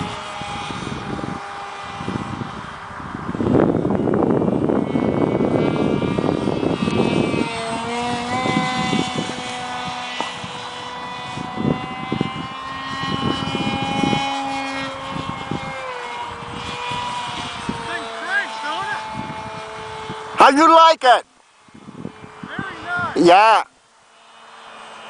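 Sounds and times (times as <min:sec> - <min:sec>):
electric motor and propeller whine: 0:00.0 - 0:25.0.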